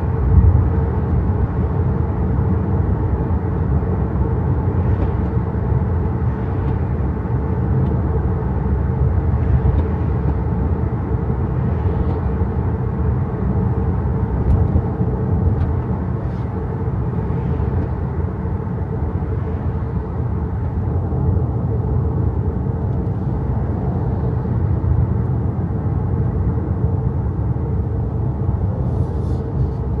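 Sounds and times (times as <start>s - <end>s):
road and tyre noise: 0.0s - 30.0s.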